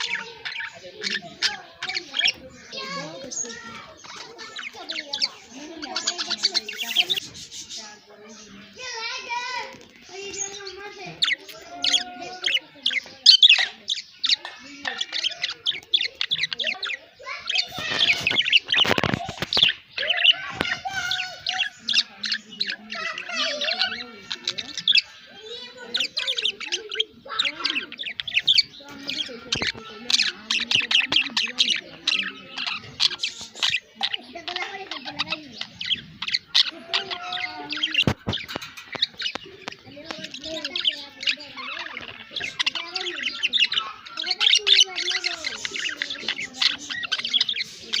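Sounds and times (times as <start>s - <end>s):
budgerigars chirping and warbling: 0.0s - 48.0s.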